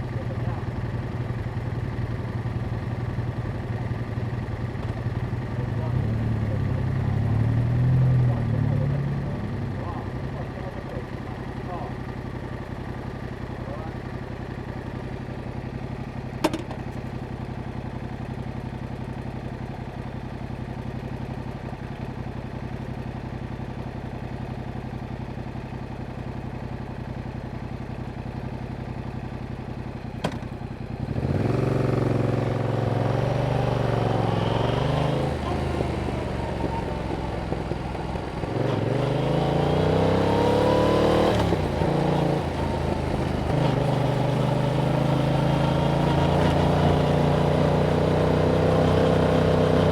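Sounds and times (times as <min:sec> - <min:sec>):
motorcycle engine idling and revving: 0:00.0 - 0:49.9.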